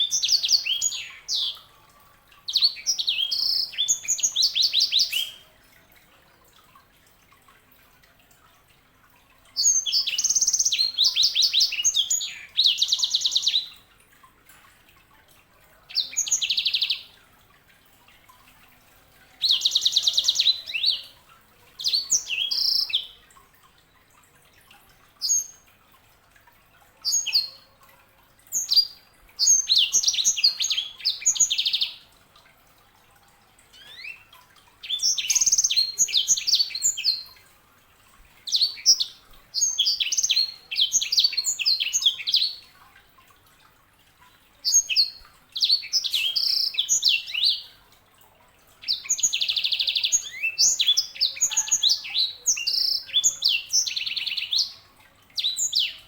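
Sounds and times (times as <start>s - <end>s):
songbird singing chirps and trills: 0.0s - 56.0s.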